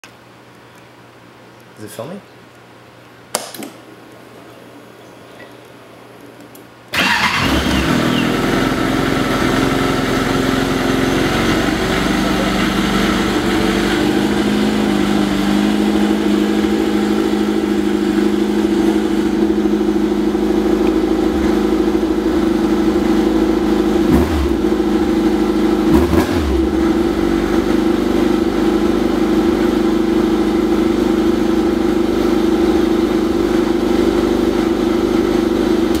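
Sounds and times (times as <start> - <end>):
snowmobile engine starting and idling: 6.9 - 36.0.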